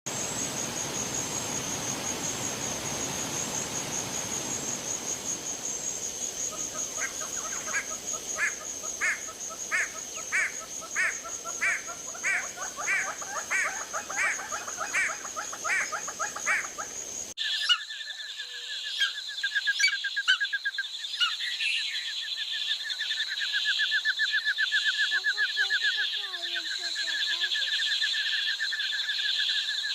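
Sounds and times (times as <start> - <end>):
high-pitched insect whine: 0.1 - 29.9.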